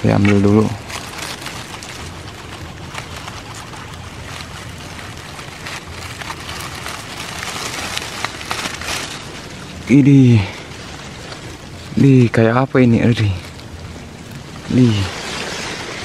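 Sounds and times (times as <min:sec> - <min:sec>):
grass and leaves rustling: 0:00.0 - 0:16.0.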